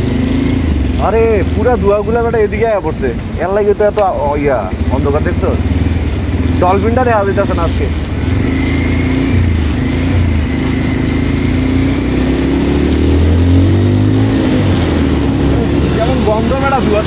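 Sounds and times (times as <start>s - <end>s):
road noise: 0.0s - 17.0s
vehicle engine running: 0.0s - 17.0s.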